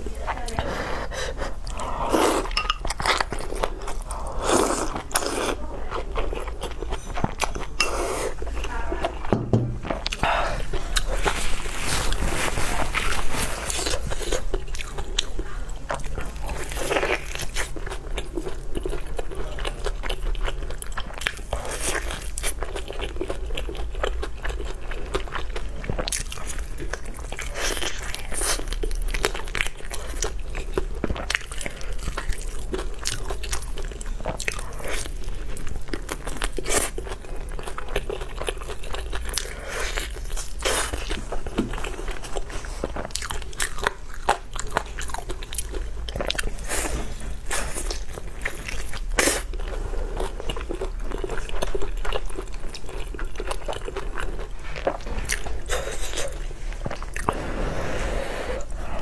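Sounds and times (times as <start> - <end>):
chewing: 0.1 - 59.0.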